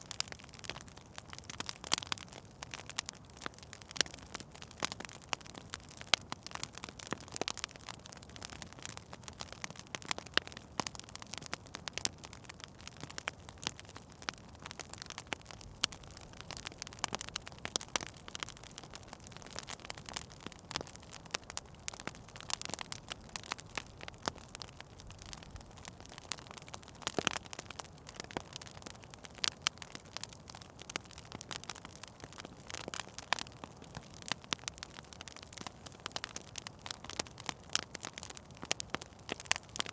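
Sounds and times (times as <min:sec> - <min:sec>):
fire crackling: 0:00.0 - 0:39.9
sharp snaps and pops: 0:00.0 - 0:39.9.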